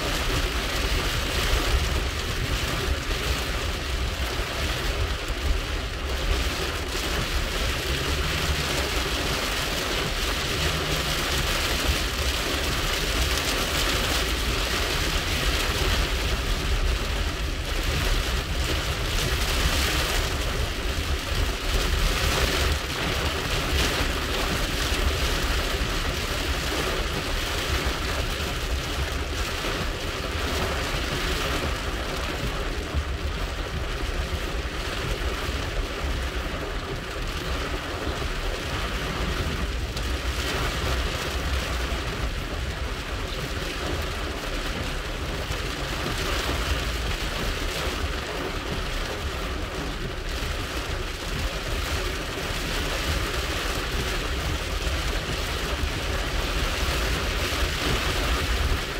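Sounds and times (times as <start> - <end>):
heavy rain on car roof: 0.0 - 58.9
low rumble of moving car: 0.0 - 58.9.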